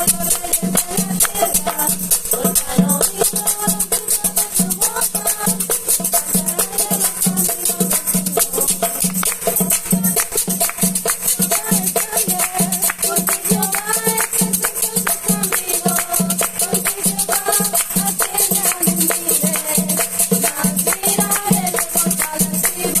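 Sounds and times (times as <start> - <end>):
rattling percussion beat: 0.0 - 23.0.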